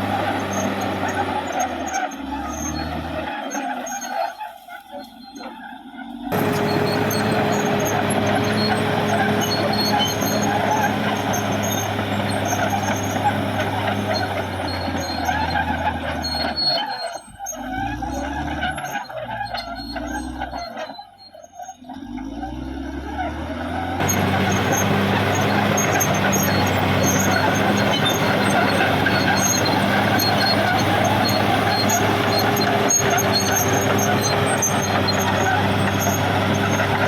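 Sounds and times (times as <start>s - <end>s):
bulldozer diesel engine working: 0.0s - 37.0s.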